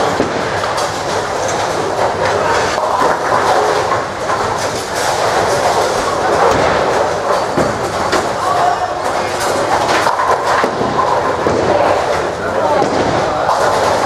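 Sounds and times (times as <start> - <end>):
bowling balls rolling: 0.0 - 14.0
bowling pins clattering: 0.0 - 14.0.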